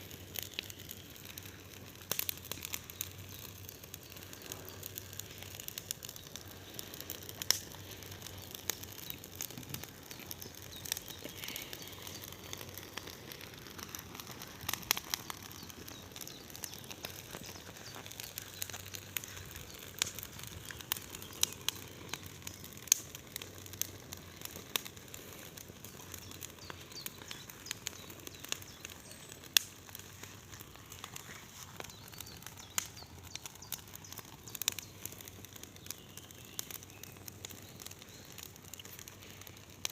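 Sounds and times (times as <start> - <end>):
bonfire crackling and popping: 0.0 - 39.9
hiss of flames: 0.0 - 39.9.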